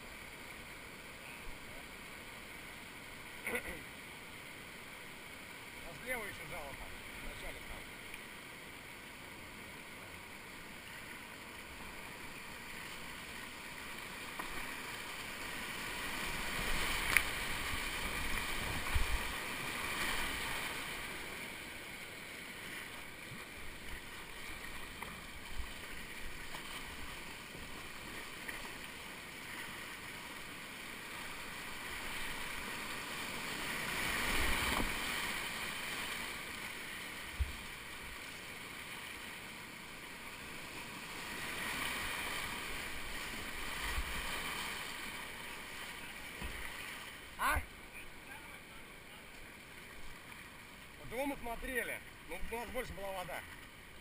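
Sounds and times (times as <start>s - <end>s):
whitewater rushing: 9.0s - 53.4s
paddle strokes splashing: 10.0s - 54.0s.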